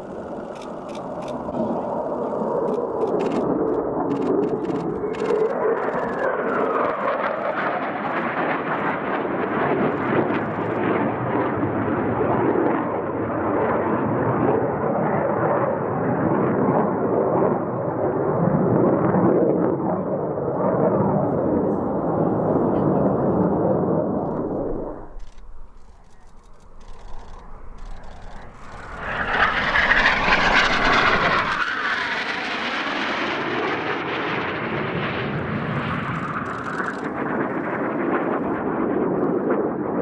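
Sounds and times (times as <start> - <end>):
military jet engine roar: 0.0 - 40.0.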